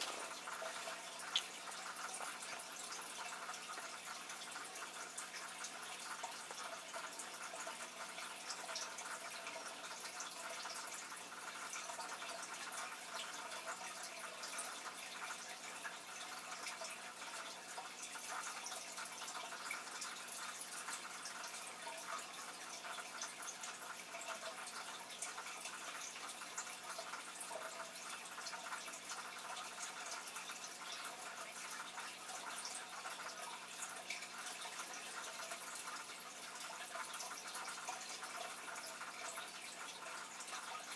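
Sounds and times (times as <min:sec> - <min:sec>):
aquarium water trickling: 0:00.0 - 0:40.9
fine crackles and ticks: 0:00.0 - 0:40.9.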